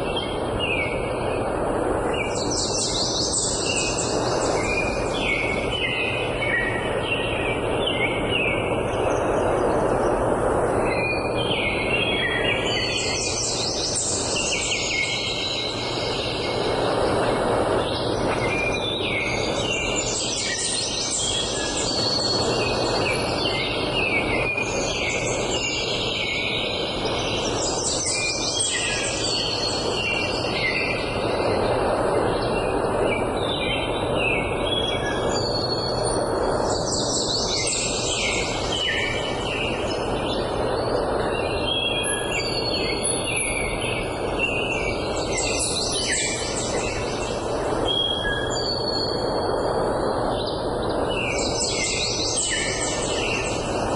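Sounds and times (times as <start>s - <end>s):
songbirds chirping and trilling: 0.0s - 53.9s
steady rushing background noise: 0.0s - 53.9s.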